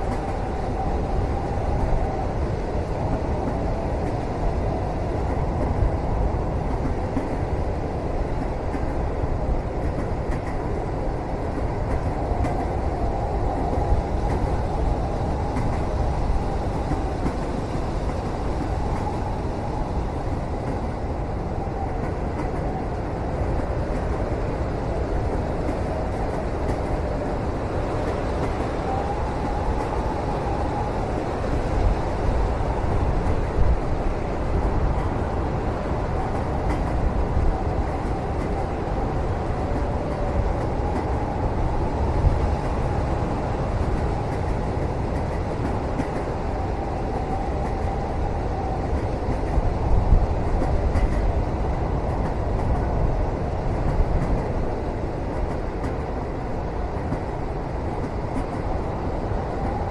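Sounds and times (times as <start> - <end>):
moving train rumbling: 0.0 - 59.9.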